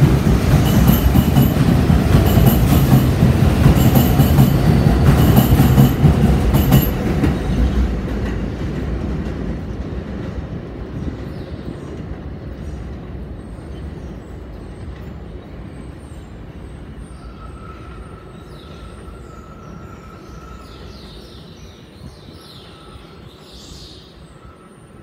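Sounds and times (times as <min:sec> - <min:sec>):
subway train rumble: 0:00.0 - 0:25.0
train whine and high squeals: 0:00.0 - 0:25.0.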